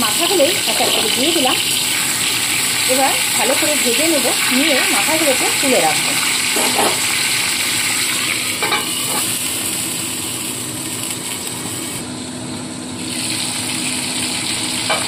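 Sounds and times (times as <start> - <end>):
fish frying in oil: 0.0 - 12.0, 13.0 - 15.0.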